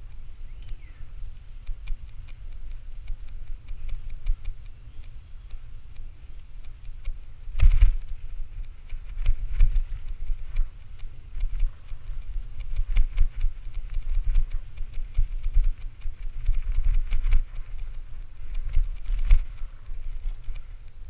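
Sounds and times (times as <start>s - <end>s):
irregular clicks and rattles: 0.0s - 21.0s
wind buffeting microphone: 0.0s - 21.0s.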